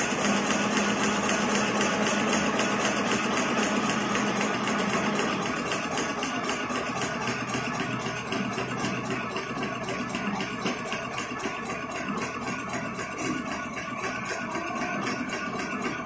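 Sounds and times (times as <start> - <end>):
machine clattering: 0.0 - 16.0.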